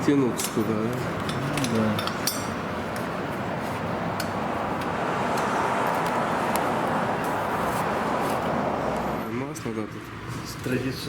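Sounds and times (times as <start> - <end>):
workshop background noise: 0.0 - 11.0.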